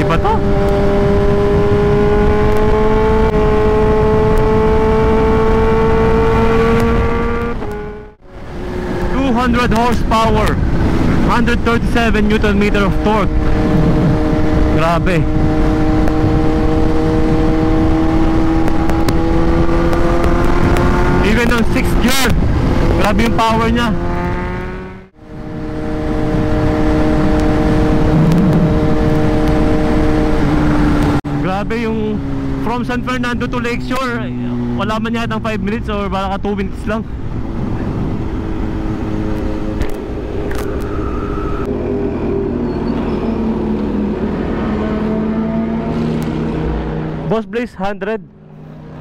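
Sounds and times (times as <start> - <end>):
wind rush: 0.0 - 31.4, 36.6 - 47.3
motorcycle engine accelerating: 0.0 - 47.3
road noise: 0.0 - 49.0.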